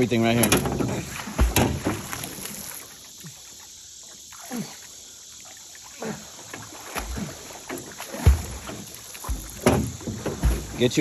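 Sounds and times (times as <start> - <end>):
water splashing around a boat: 0.0 - 11.0.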